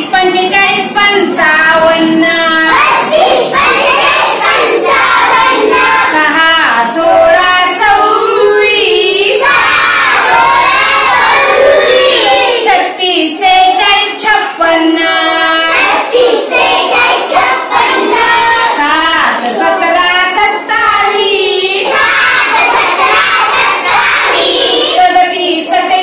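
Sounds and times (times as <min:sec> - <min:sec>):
children singing in unison: 0:01.3 - 0:12.9, 0:14.6 - 0:25.9.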